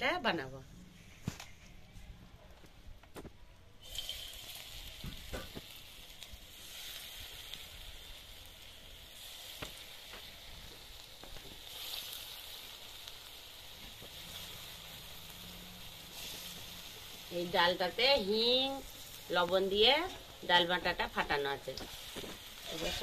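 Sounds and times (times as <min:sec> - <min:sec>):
batter sizzling in hot oil: 0:03.8 - 0:23.0.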